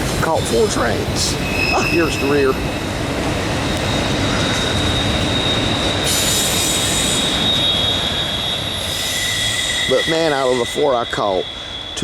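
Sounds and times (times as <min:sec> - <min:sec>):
freight train rolling: 0:00.0 - 0:12.0
train wheels squealing: 0:00.3 - 0:12.0.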